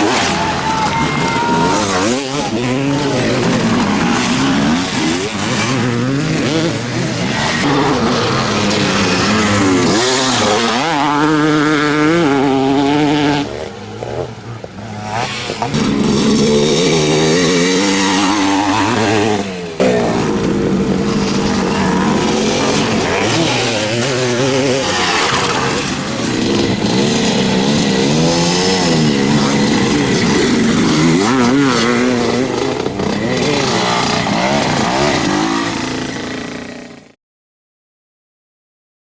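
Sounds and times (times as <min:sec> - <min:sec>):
motocross motorcycles revving: 0:00.0 - 0:37.2.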